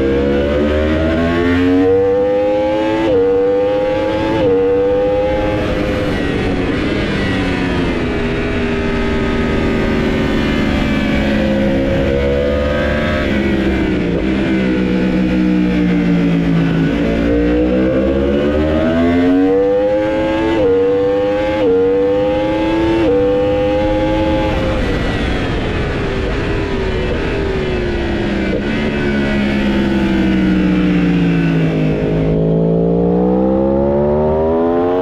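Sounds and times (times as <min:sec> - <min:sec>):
superbike engine accelerating: 0:00.0 - 0:35.0.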